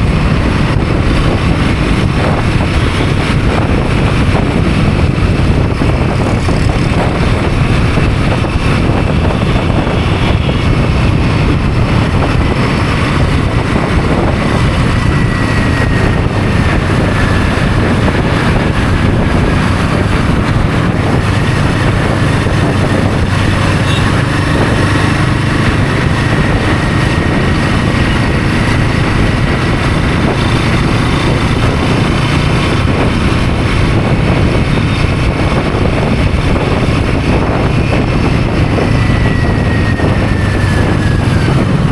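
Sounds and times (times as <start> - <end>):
motorcycle engine running: 0.0 - 41.9
road and wind noise: 0.0 - 41.9.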